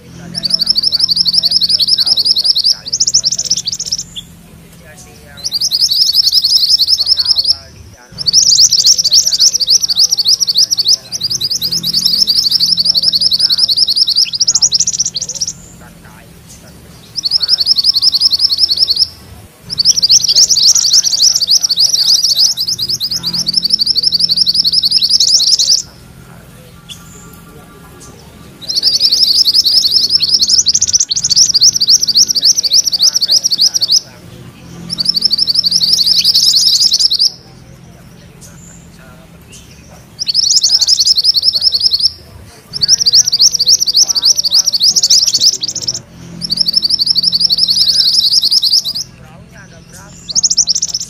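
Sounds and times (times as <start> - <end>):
songbird trilling: 0.0 - 51.0.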